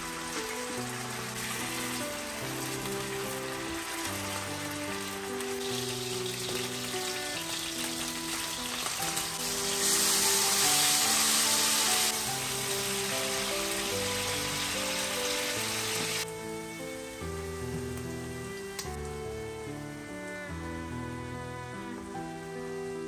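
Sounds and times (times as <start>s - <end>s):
meat sizzling in hot oil: 0.0s - 19.8s
soft music with held notes: 0.0s - 23.0s.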